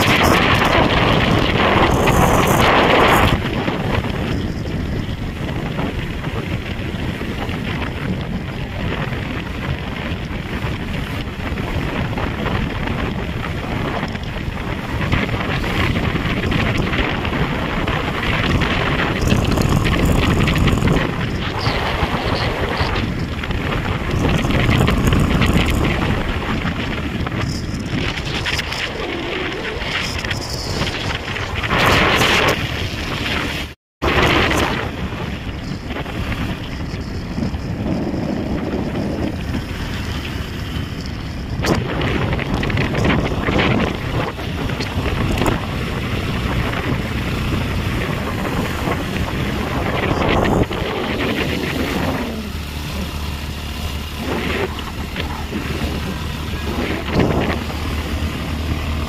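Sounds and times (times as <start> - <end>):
motorcycle engine: 0.0 - 59.0
road noise: 0.0 - 59.0
wind buffeting microphone: 0.0 - 59.0.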